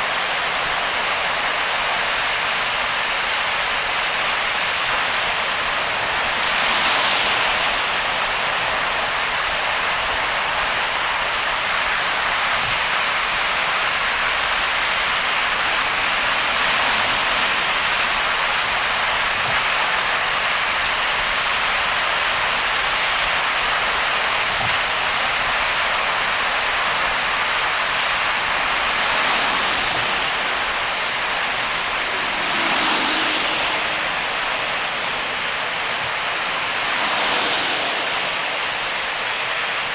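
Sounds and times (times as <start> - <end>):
heavy rain: 0.0 - 39.9
tyre spray on wet road: 0.0 - 39.9.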